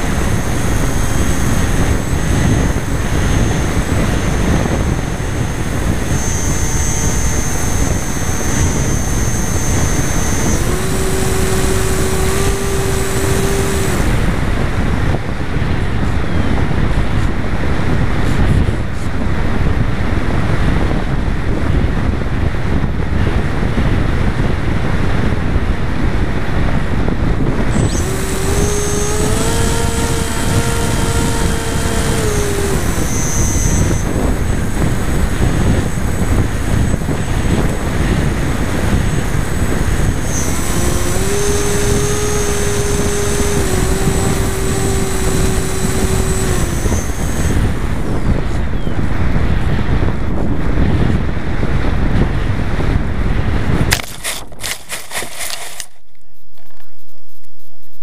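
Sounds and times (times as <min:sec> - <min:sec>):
electric motor whine: 0:00.0 - 0:52.8, 0:53.9 - 0:56.0
wind rushing over camera: 0:00.0 - 0:58.0.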